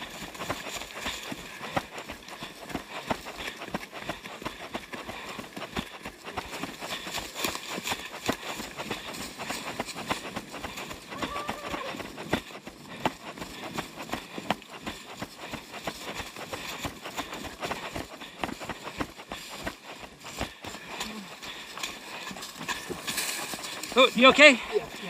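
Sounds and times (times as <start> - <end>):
running footsteps on a trail: 0.0 - 25.0.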